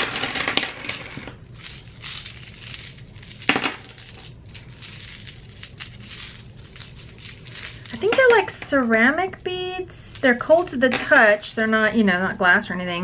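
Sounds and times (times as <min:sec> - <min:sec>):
beads clicking together: 0:00.9 - 0:12.5.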